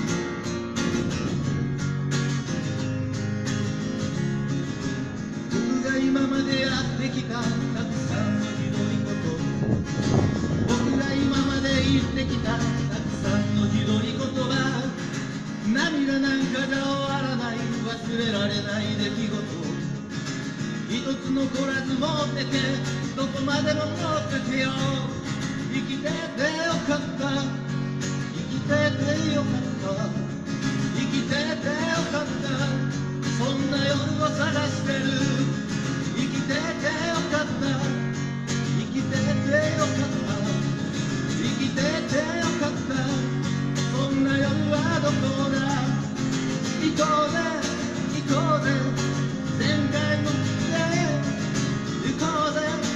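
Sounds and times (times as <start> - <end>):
acoustic guitar strummed and picked: 0.0 - 52.9.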